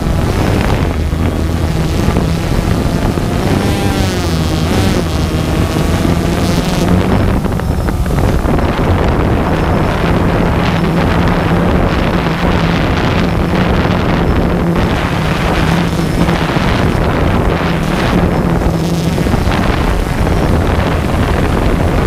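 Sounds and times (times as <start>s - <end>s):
drone propellers buzzing: 0.0s - 22.0s
high motor whine: 0.0s - 22.0s
wind on microphone: 0.0s - 22.0s.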